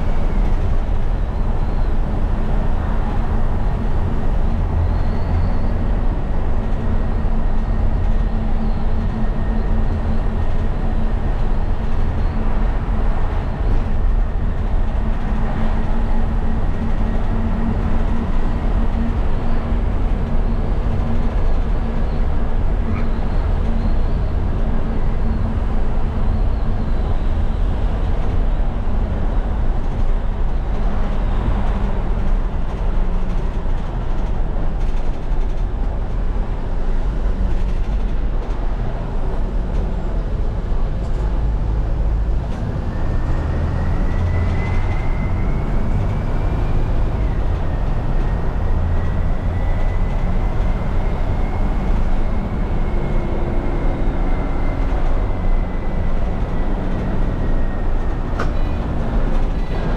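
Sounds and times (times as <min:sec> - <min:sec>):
diesel engine drone: 0:00.0 - 0:59.9
road and tyre noise: 0:00.0 - 0:59.9.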